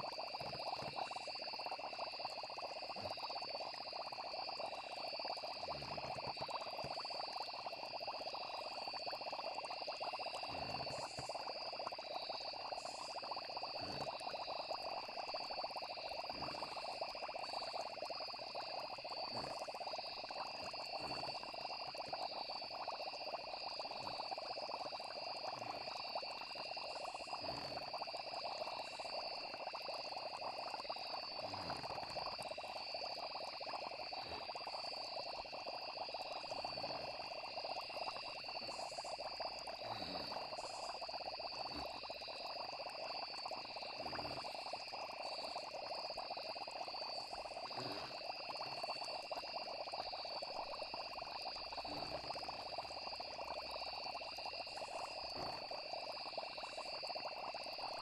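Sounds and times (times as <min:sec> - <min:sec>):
frogs chorus: 0:00.0 - 0:58.0
insects trilling: 0:00.0 - 0:58.0.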